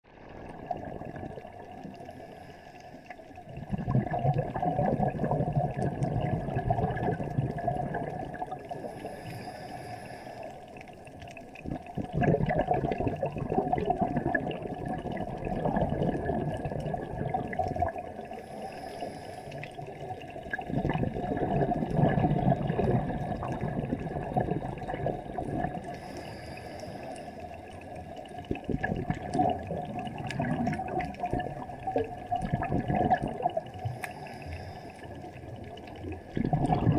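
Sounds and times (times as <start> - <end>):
quiet water noise: 0.0 - 36.9
underwater breath bubbles: 0.2 - 36.9.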